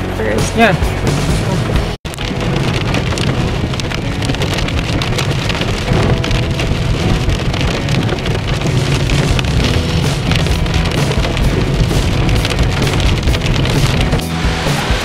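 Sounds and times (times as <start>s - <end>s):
car rumbling on wet road: 0.0s - 15.0s
rain pattering on car windshield: 1.4s - 15.0s.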